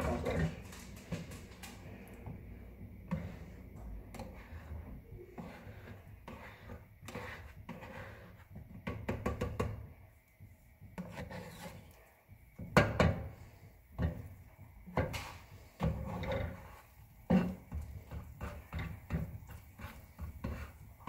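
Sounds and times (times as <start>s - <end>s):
utensil scraping and tapping a pan: 0.0s - 2.4s, 3.0s - 10.0s, 10.8s - 21.0s.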